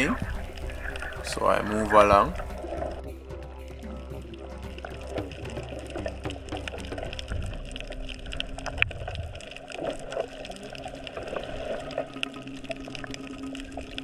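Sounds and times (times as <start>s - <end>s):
crackling clicks underwater: 0.0s - 14.0s
water moving past underwater: 0.0s - 14.0s.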